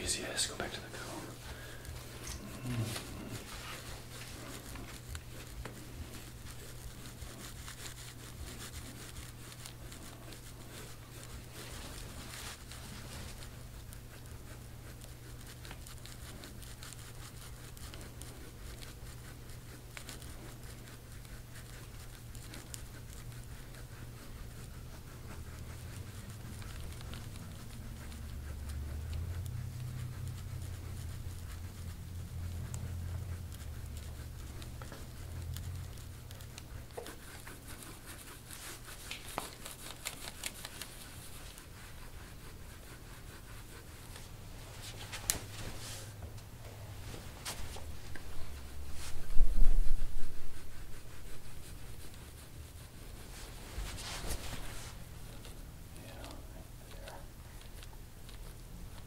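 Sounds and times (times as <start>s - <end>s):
steady low hum: 0.0s - 59.0s
scraping tool rubbing on skin: 0.1s - 46.2s, 47.0s - 59.0s.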